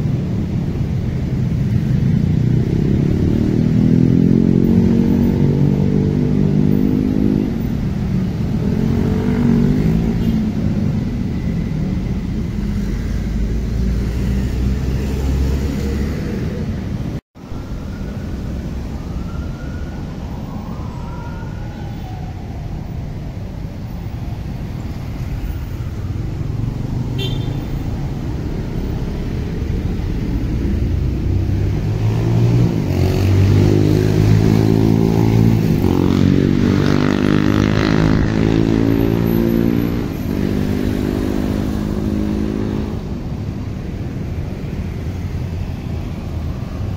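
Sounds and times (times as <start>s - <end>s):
traffic rumble: 0.0s - 46.9s.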